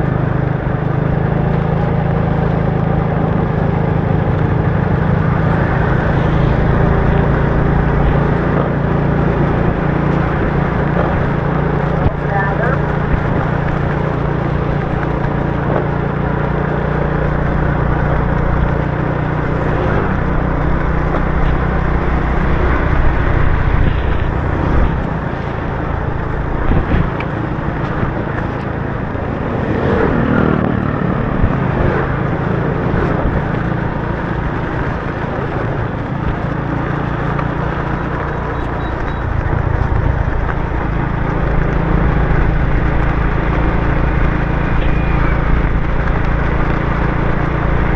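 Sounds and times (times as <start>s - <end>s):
motorbike engine running: 0.0s - 47.9s.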